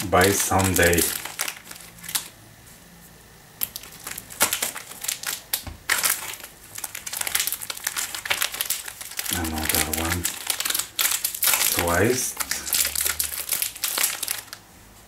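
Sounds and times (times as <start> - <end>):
plastic wrappers crinkling: 0.0 - 2.4, 3.6 - 14.7.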